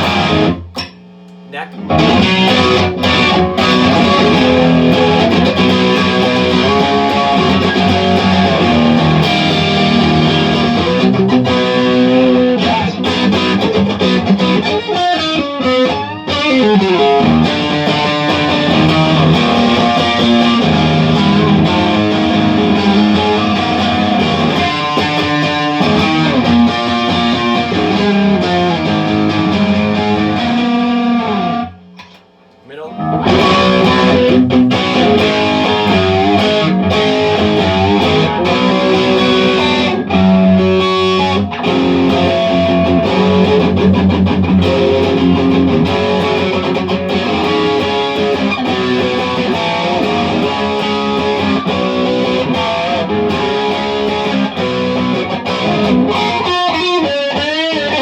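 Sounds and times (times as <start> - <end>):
distorted electric guitar riffing: 0.0 - 58.0.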